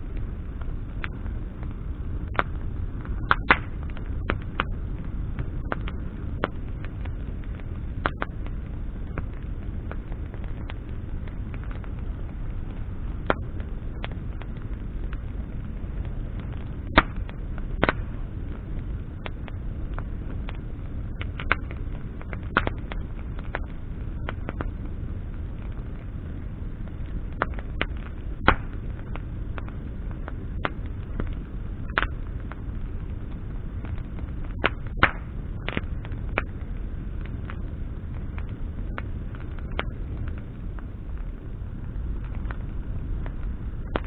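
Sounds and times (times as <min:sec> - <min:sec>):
bonfire crackling: 0:00.0 - 0:44.0
low rumble of fire: 0:00.0 - 0:44.0
sharp pops from burning branches: 0:00.0 - 0:44.0.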